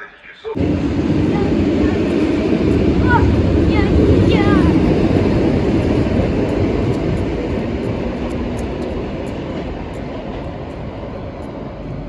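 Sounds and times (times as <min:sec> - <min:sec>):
train rumbling past: 0:00.5 - 0:12.0.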